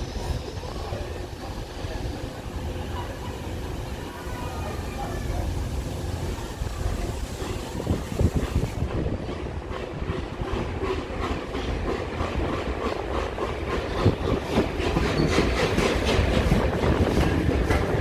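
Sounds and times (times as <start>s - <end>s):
steam train rumbling: 0.0s - 18.0s.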